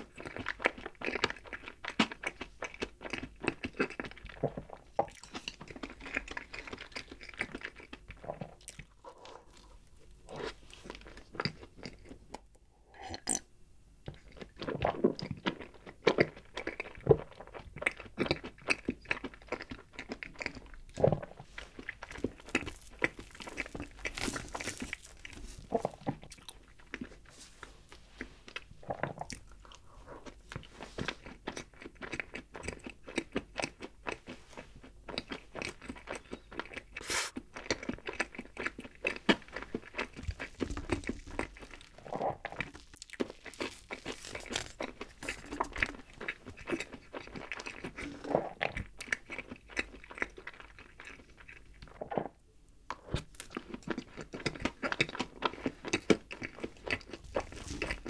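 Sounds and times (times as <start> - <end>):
wet chewing and smacking: 0.0 - 12.5, 14.0 - 58.0.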